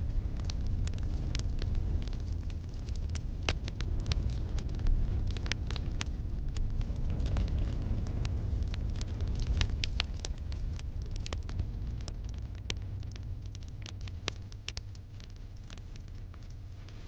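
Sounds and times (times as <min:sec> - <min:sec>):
low rumble of fire: 0:00.0 - 0:17.0
wood fire pops and snaps: 0:00.0 - 0:17.0.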